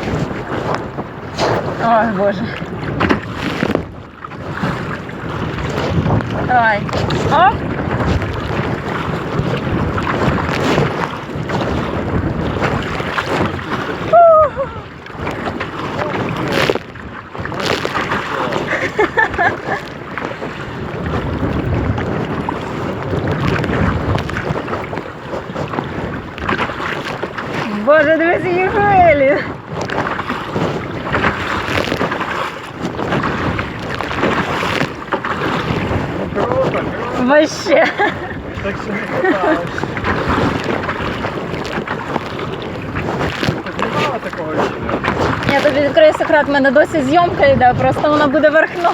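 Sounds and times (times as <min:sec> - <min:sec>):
waves slapping and splashing: 0:00.0 - 0:48.9
wind buffeting microphone: 0:00.0 - 0:48.9.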